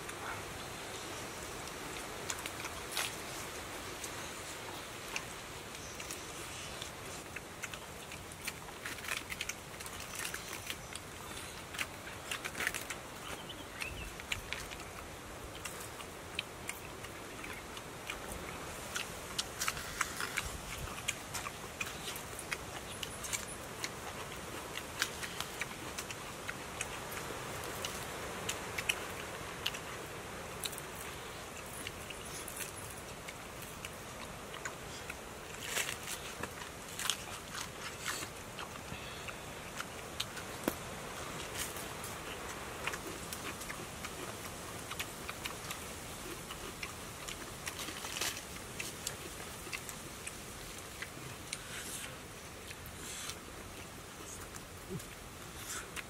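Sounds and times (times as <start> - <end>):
faint steady hiss: 0.0 - 56.0
small clicks and crackles: 1.6 - 39.0, 39.7 - 52.1.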